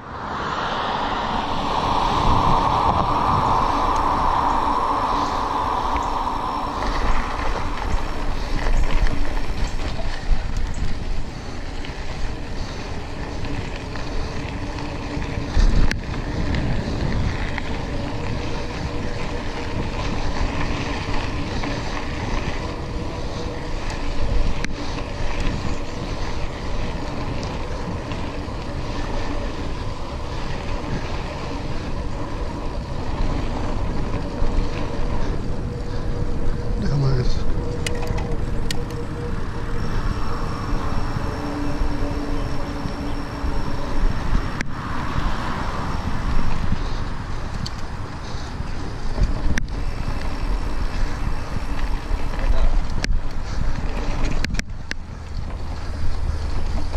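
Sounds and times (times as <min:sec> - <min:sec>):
wind buffeting microphone: 0:00.0 - 0:56.9
tyres rumbling on gravel: 0:01.3 - 0:56.9.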